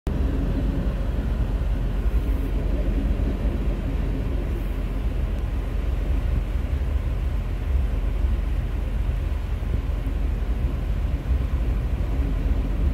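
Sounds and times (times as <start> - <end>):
train wheels rumbling on rails: 0.1 - 12.9.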